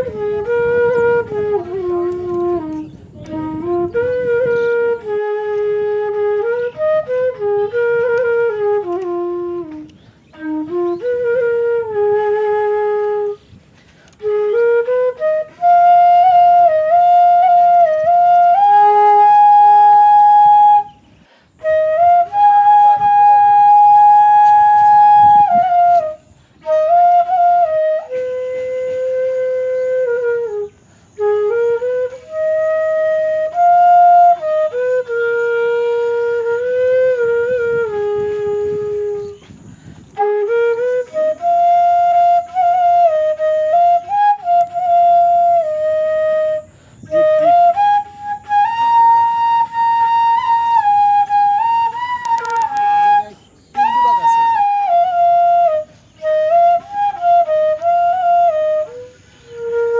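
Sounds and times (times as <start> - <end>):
solo flute melody: 0.0 - 59.9.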